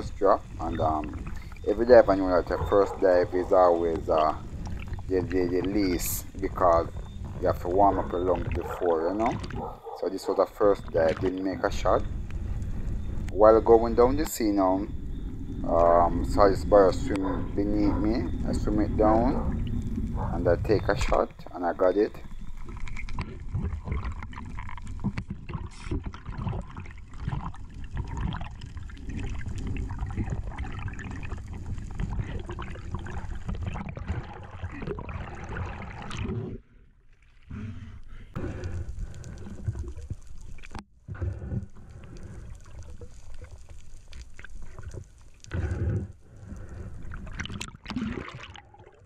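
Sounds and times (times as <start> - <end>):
water rushing underwater: 0.0 - 49.0
water splashing: 0.0 - 49.0.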